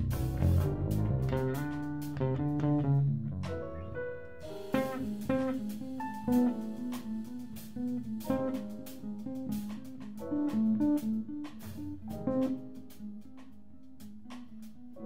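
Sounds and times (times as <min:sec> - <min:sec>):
guitar notes: 0:00.0 - 0:15.0
plucked electric bass: 0:00.0 - 0:15.0.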